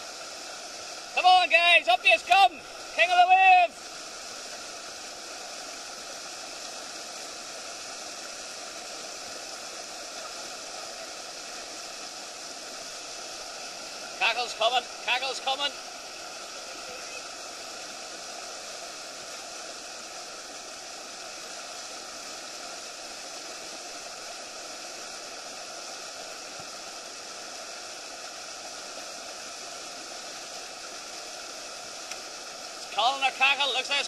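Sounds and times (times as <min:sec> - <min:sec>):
white water churning: 0:00.0 - 0:34.0.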